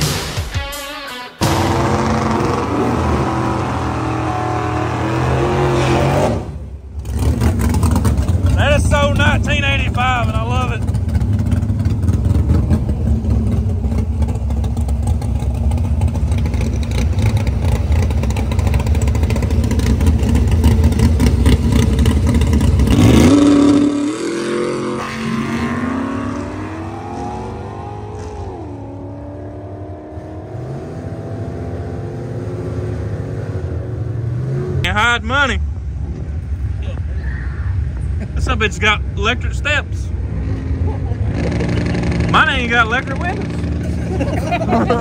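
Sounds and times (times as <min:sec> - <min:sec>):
car engine revving: 0:01.4 - 0:37.0, 0:38.4 - 0:45.0
car engine rough rumble: 0:01.4 - 0:45.0.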